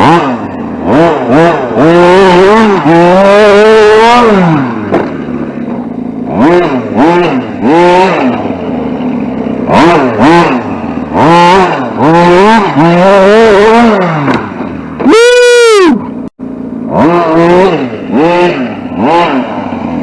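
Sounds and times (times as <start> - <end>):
rc truck motor revving: 0.0 - 15.9, 16.8 - 20.0.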